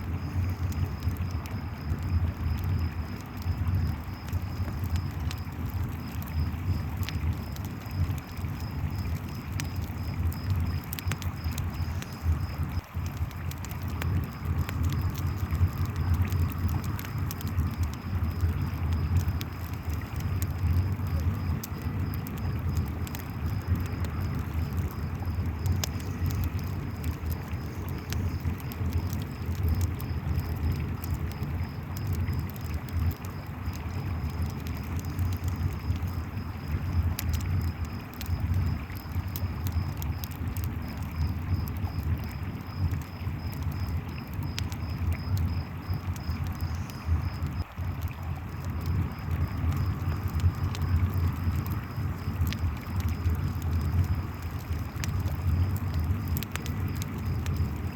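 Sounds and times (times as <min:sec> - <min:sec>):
campfire crackling: 0:00.0 - 0:57.9
crickets chirping: 0:00.0 - 0:57.9.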